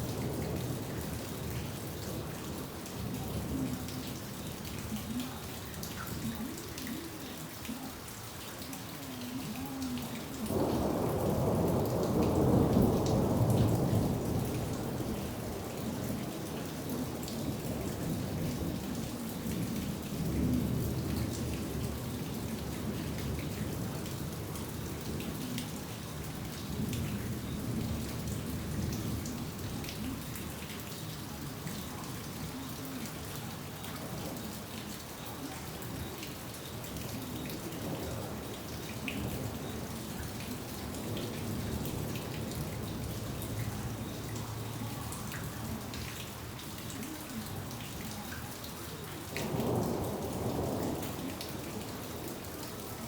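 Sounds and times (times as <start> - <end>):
thunder rumbling: 0.0 - 46.6, 49.3 - 53.0
steady rain: 0.0 - 53.0.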